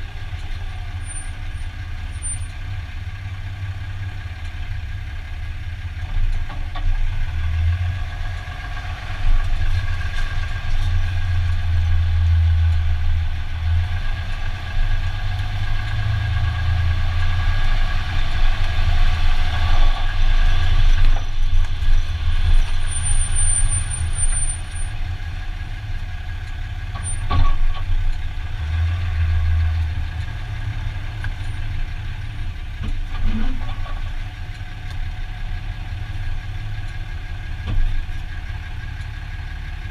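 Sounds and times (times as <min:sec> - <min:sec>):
pickup truck engine rumble: 0:00.0 - 0:39.9.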